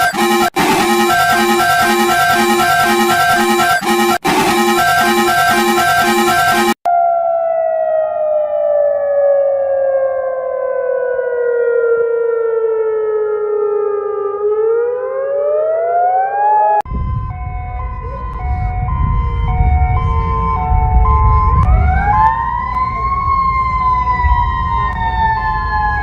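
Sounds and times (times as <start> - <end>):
electronic siren wailing: 0.0 - 26.0
two-tone siren: 0.0 - 26.0.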